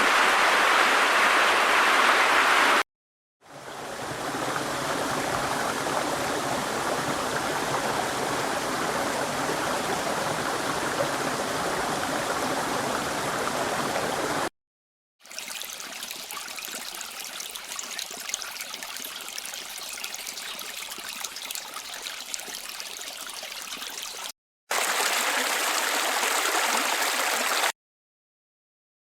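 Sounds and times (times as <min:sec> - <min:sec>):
flowing water: 0:00.0 - 0:02.8, 0:03.4 - 0:14.5, 0:15.2 - 0:27.7.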